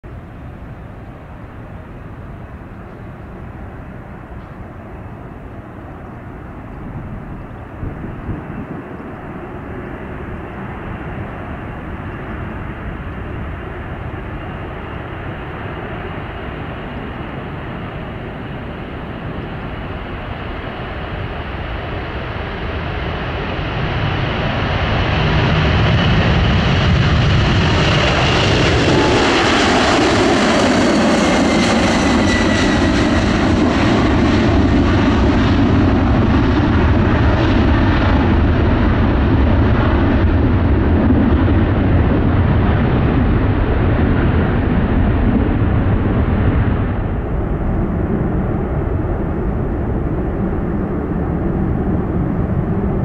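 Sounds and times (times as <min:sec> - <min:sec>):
jet engines at take-off thrust: 0:00.1 - 0:53.0.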